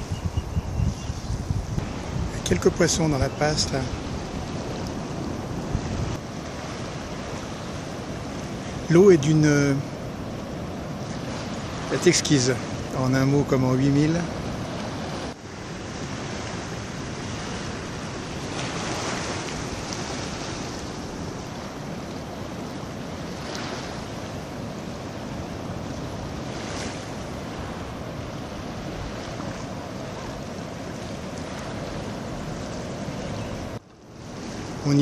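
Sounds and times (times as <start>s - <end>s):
wind on microphone: 0.0s - 8.9s, 14.1s - 35.0s
water lapping: 1.8s - 35.0s.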